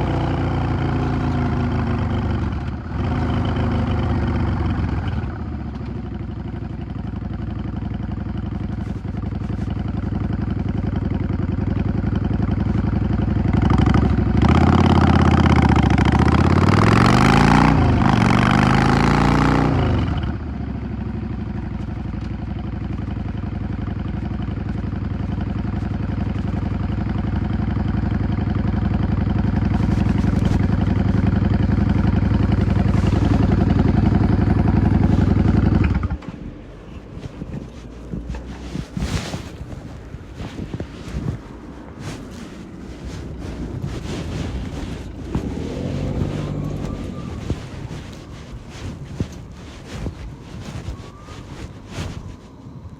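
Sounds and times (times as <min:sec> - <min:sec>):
motorcycle engine revving: 0:07.0 - 0:50.2.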